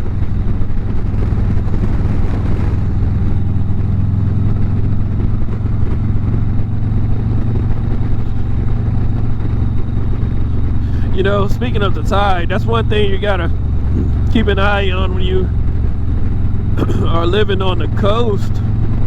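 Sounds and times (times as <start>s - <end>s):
motorcycle engine running: 0.0s - 19.0s
road noise: 0.0s - 19.0s
wind noise: 0.0s - 19.0s.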